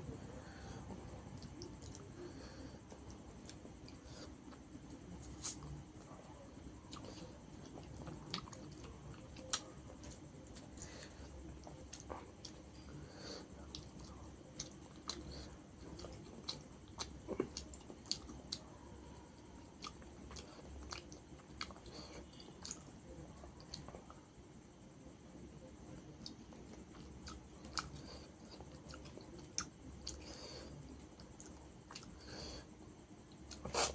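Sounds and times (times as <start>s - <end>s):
person chewing food: 0.1s - 24.2s, 25.9s - 33.9s.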